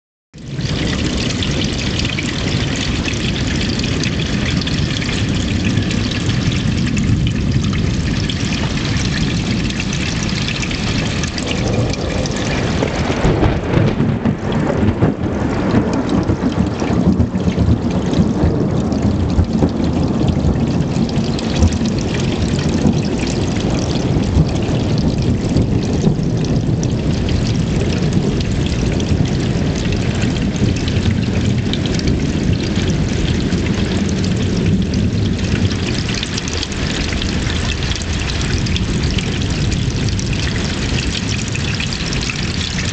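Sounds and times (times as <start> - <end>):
deep low rumble: 0.4 - 42.9
heavy rain rushing: 0.4 - 42.9.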